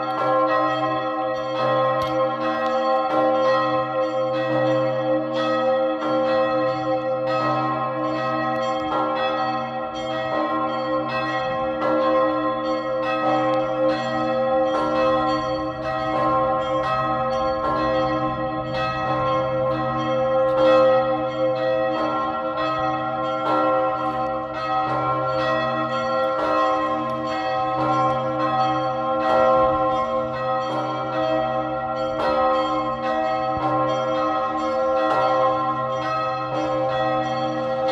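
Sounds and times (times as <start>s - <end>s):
large bell ringing: 0.0s - 37.9s.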